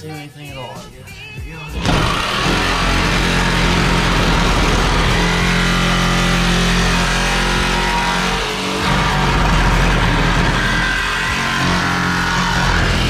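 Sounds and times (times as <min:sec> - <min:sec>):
power tool cutting sheet metal: 0:01.8 - 0:13.0.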